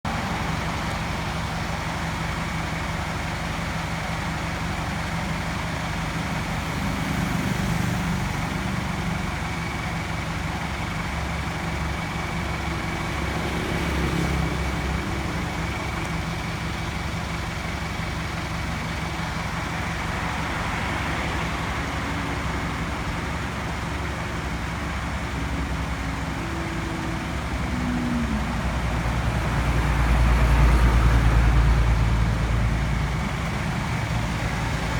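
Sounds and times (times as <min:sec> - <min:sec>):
vehicle engine rumbling: 0:00.0 - 0:34.9.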